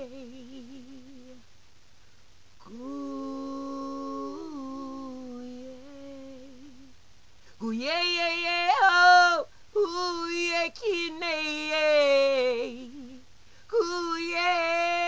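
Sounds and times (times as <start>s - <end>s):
woman humming: 0.0s - 1.4s, 2.6s - 7.0s, 7.6s - 15.0s.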